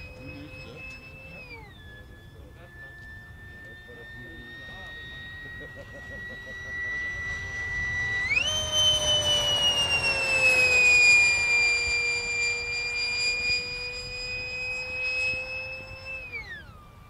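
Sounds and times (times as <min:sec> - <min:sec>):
model jet fan whine: 0:00.0 - 0:17.0.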